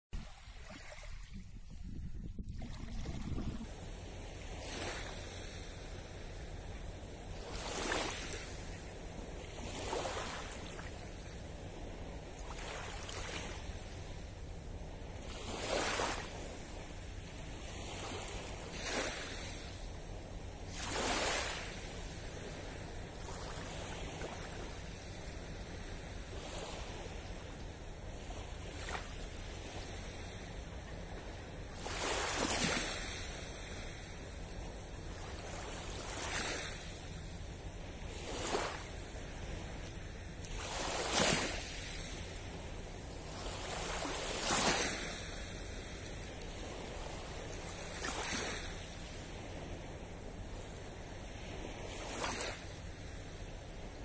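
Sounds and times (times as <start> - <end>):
small waves lapping at shore: 0.2 - 54.0.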